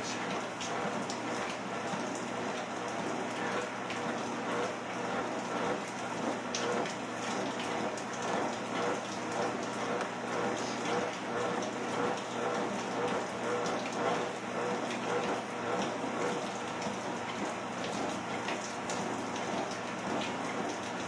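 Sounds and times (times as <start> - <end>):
treadmill running: 0.0 - 21.0.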